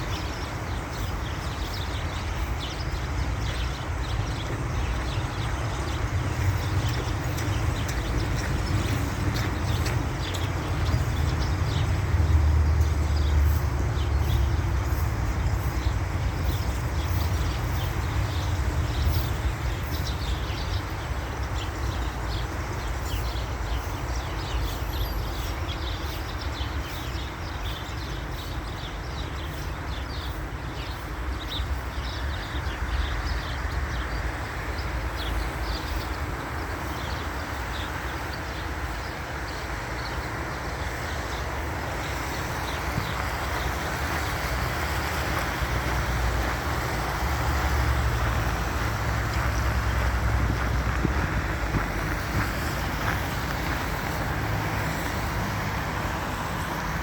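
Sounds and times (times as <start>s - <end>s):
flock of birds chirping: 0.0s - 57.0s
wind rumble on microphone: 0.0s - 57.0s.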